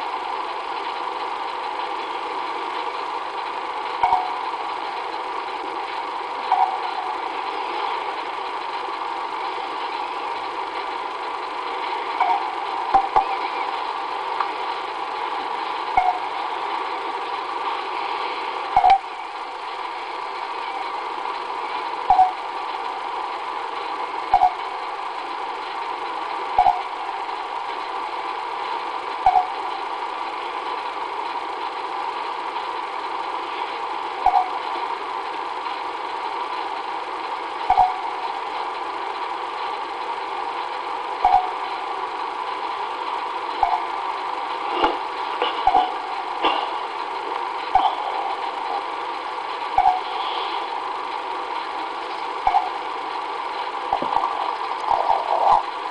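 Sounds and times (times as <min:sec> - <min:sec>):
steady hum and hiss: 0:00.0 - 0:55.9.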